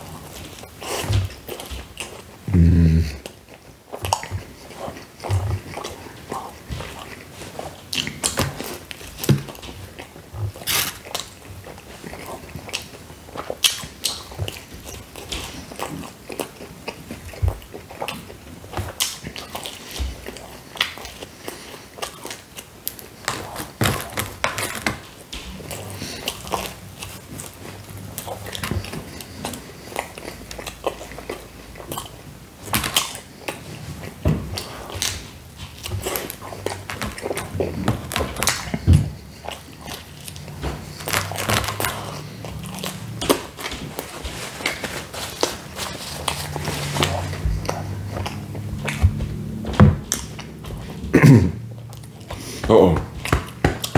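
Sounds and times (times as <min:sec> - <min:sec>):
person biting and chewing: 0:00.0 - 0:53.9.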